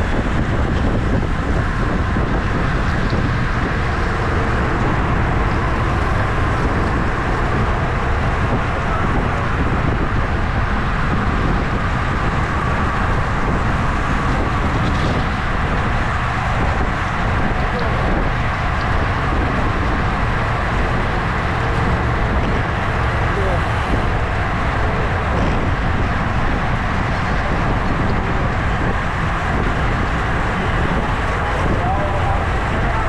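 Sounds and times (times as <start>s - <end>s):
low rumble: 0.0s - 33.0s
wind noise on microphone: 0.0s - 33.0s.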